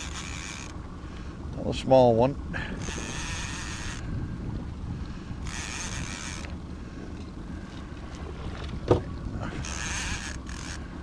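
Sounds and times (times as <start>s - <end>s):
outboard motor running: 0.0s - 11.0s
wind buffeting microphone: 1.4s - 10.3s.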